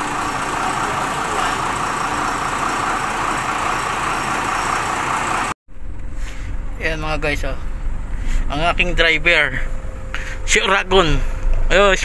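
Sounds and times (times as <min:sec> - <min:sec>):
truck engine idling: 0:00.0 - 0:10.6.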